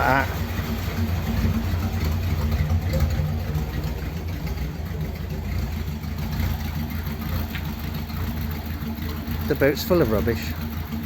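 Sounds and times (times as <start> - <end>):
car engine idling roughly: 0.0 - 11.0.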